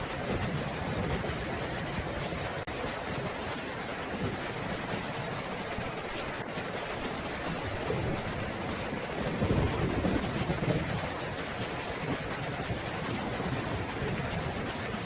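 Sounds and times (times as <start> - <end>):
heavy rain: 0.0 - 15.0
thunder rumbling: 0.0 - 15.0.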